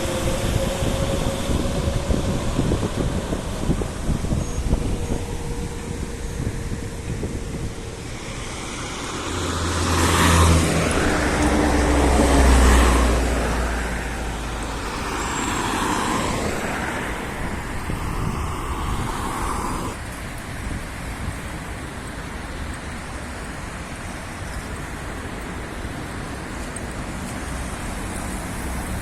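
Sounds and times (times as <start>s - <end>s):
passing vehicles: 0.0s - 29.0s.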